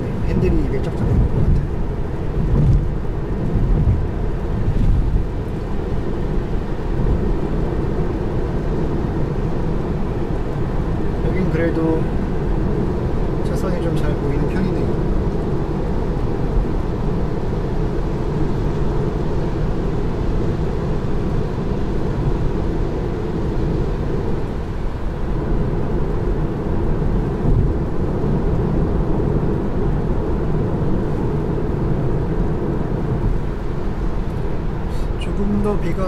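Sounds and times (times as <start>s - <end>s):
tyre and road rumble in car cabin: 0.0s - 36.0s.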